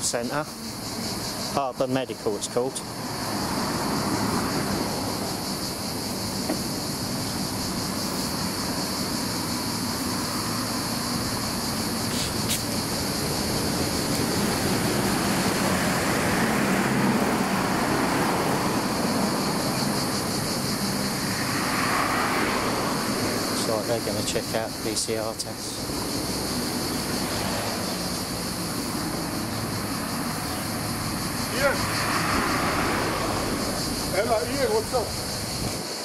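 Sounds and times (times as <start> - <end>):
passing cars: 0.0 - 36.0
steady high hiss: 0.0 - 36.0.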